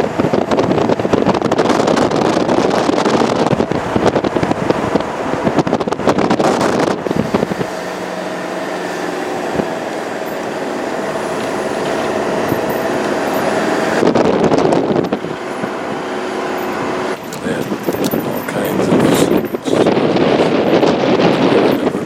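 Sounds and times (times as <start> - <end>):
vehicle engine running: 0.0 - 22.0
wind buffeting microphone: 0.0 - 22.0.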